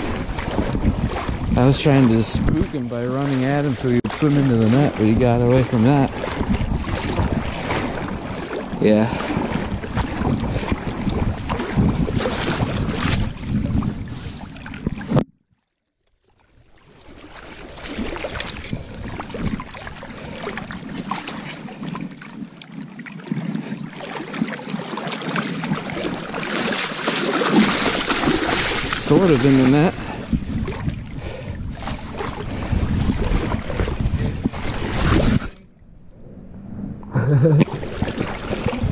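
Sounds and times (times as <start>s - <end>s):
wind buffeting microphone: 0.0s - 15.2s, 17.9s - 22.2s, 25.5s - 38.9s
river water splashing: 0.0s - 36.0s, 37.1s - 38.9s.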